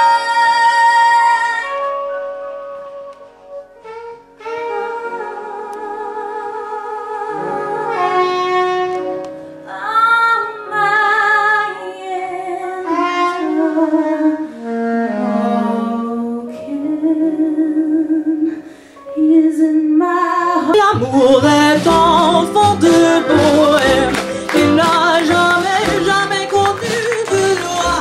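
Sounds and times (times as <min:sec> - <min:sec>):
woman singing: 0:00.0 - 0:02.1, 0:04.7 - 0:08.8, 0:09.7 - 0:14.4, 0:15.8 - 0:28.0
soprano saxophone melody: 0:00.0 - 0:18.6, 0:20.6 - 0:28.0
grand piano: 0:00.0 - 0:28.0.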